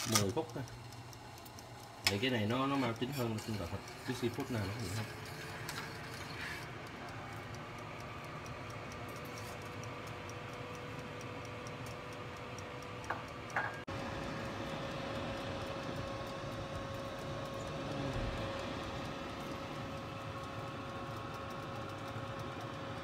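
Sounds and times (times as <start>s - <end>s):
sharp clicks: 0.0s - 13.8s, 15.6s - 23.0s
light regular ticking: 0.0s - 23.0s
oven fan humming: 0.0s - 23.0s.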